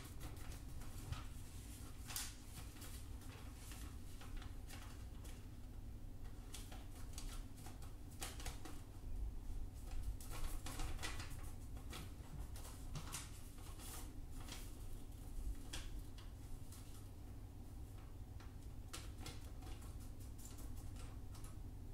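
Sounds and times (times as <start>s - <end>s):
paper rustling and crinkling: 0.0s - 5.4s, 6.3s - 8.8s, 9.8s - 17.1s, 18.9s - 21.5s
low steady hum: 0.0s - 21.9s.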